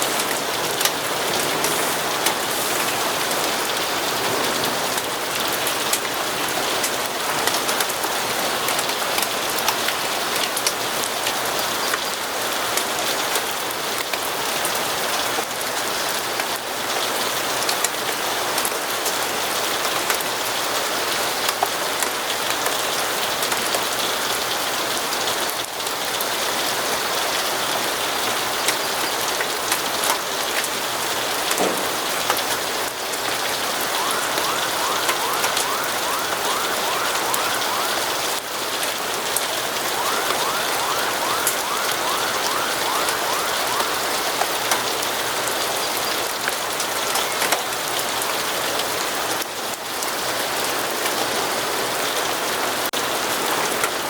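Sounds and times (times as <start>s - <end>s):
heavy rainfall: 0.0s - 54.0s.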